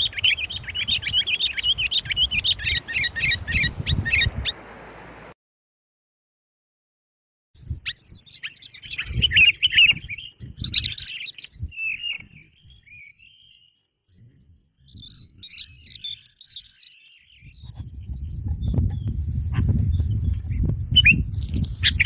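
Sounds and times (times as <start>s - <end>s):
birds chirping: 0.0s - 5.3s, 7.6s - 22.0s.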